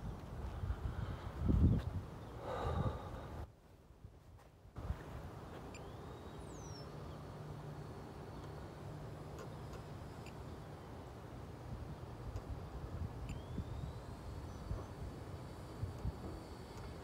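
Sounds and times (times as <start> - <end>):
faint low hum: 0.0 - 17.0
wind: 0.0 - 17.0.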